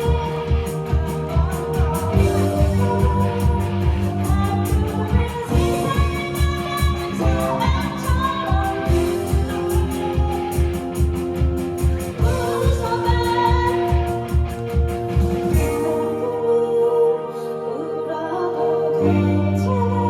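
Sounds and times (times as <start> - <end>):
guitar: 0.0 - 20.0
person singing: 0.0 - 20.0.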